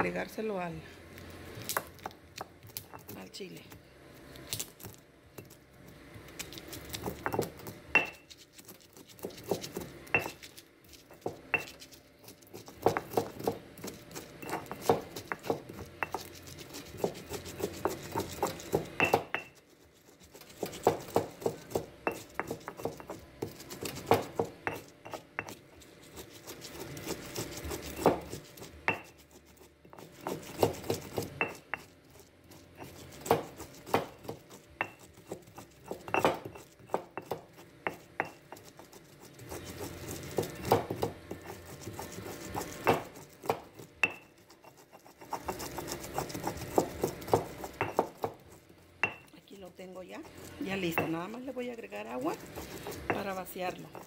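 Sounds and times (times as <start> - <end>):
stone pestle knocking and grinding: 1.6 - 3.8, 6.3 - 49.3, 50.2 - 54.0.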